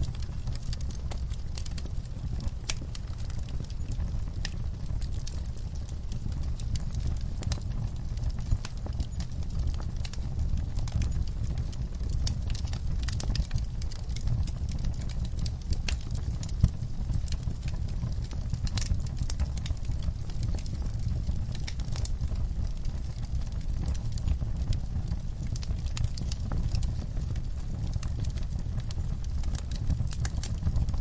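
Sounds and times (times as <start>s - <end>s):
low rumble of burning fire: 0.0s - 31.0s
wood fire crackling and popping: 0.0s - 31.0s.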